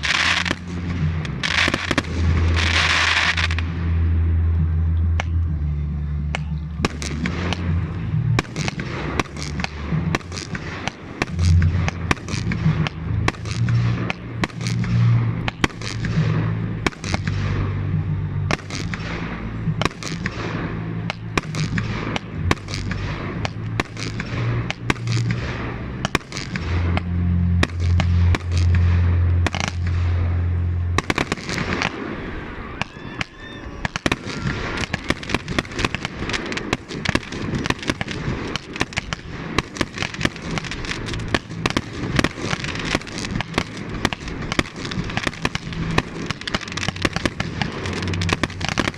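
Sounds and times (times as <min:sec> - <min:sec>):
fireworks bangs and cracks: 0:00.0 - 0:04.4, 0:06.3 - 0:48.9
deep rumble: 0:00.0 - 0:48.9.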